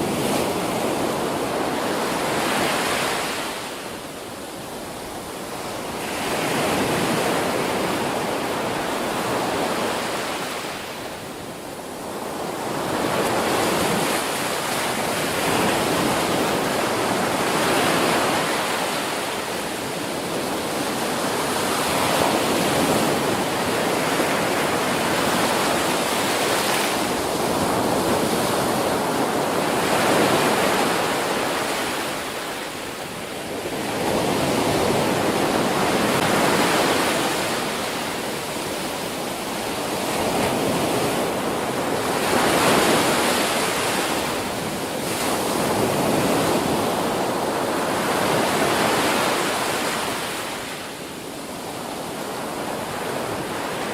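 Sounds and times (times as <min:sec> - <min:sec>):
ocean waves breaking on a beach: 0:00.0 - 0:53.9.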